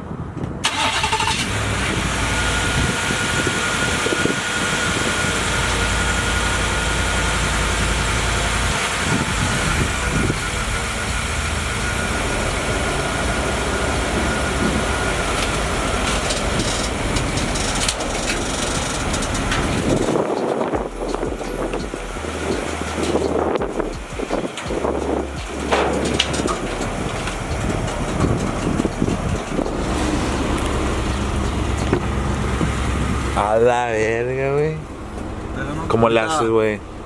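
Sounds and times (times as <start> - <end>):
wind buffeting microphone: 0.0 - 36.0
vehicle engine running: 0.6 - 37.0.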